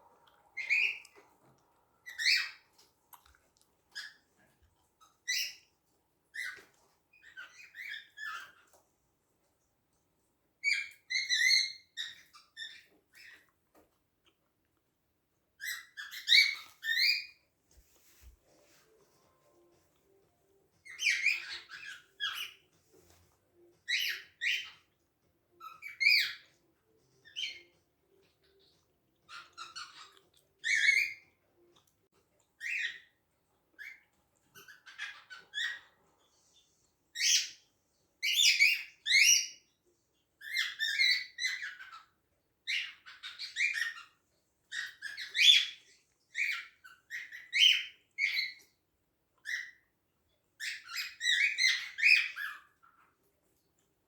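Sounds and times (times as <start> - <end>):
cockatiels chirping: 0.5 - 2.9, 3.9 - 8.8, 10.6 - 13.8, 15.6 - 17.4, 20.7 - 31.8, 32.5 - 48.8, 49.4 - 53.3.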